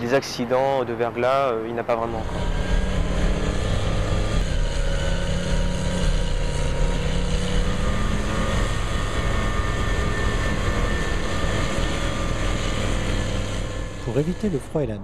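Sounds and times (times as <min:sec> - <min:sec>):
heavy diesel engines: 0:00.0 - 0:15.0.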